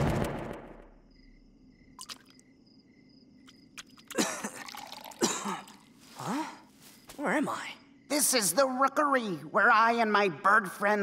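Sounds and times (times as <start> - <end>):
crickets chirping: 0.6 - 11.0.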